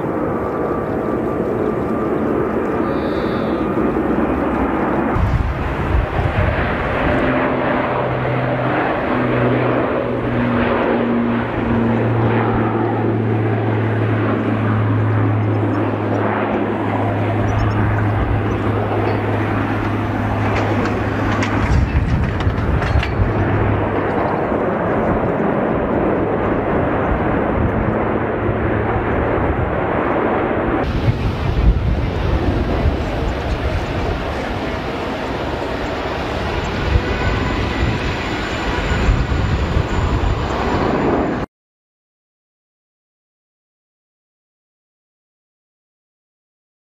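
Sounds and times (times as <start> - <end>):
jet engines running: 0.0 - 41.5.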